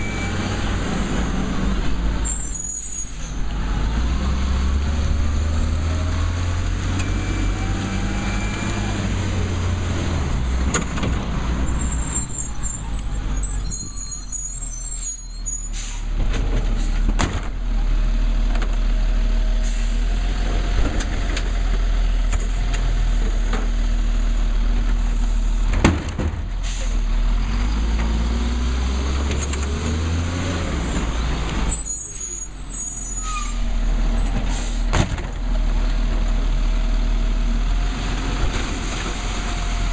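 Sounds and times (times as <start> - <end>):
garbage truck engine rumbling: 0.0 - 39.9.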